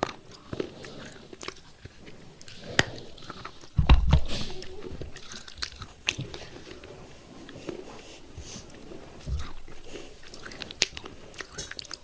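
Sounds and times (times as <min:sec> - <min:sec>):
crunching on clay pot: 0:00.0 - 0:12.0
person chewing: 0:00.0 - 0:12.0.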